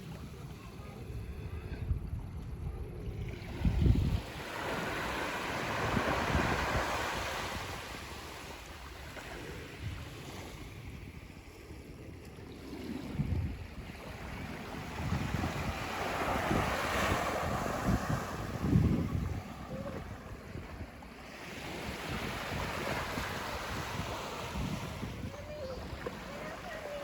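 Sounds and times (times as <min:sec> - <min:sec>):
waves washing up a beach: 0:00.0 - 0:27.0
wind gusts on microphone: 0:00.0 - 0:27.0.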